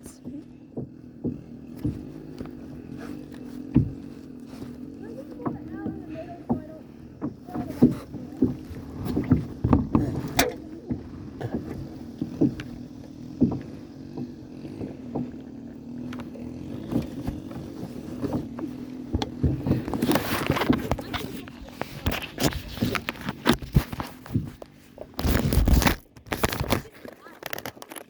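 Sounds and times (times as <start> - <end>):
water sound: 0.0 - 26.2
knocks on kayak hull: 0.7 - 25.2.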